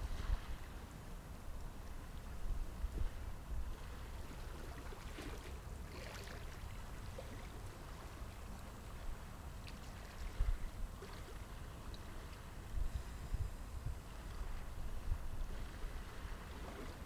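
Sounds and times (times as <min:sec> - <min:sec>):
soft water splashes: 0:00.0 - 0:01.0, 0:01.6 - 0:13.2, 0:13.8 - 0:17.0
wind rumble on microphone: 0:00.0 - 0:17.0
water lapping at rocks: 0:01.9 - 0:13.1, 0:13.9 - 0:17.0.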